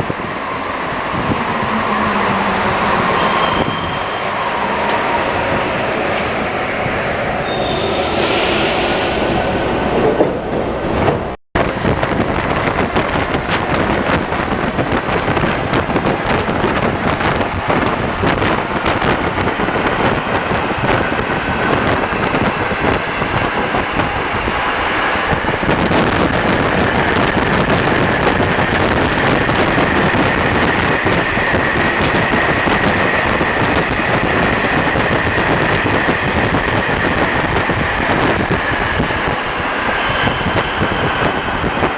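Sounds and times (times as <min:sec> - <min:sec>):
metro train running: 0:00.0 - 0:41.9.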